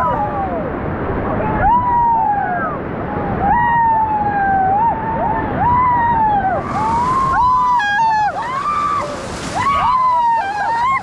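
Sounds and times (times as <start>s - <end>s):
people screaming and yelling: 0.0s - 11.0s
whitewater rushing: 0.0s - 11.0s.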